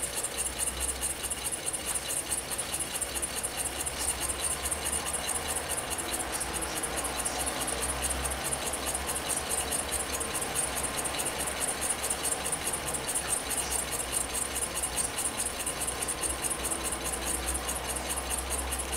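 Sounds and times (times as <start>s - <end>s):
model engine ticking rattle: 0.0s - 18.9s.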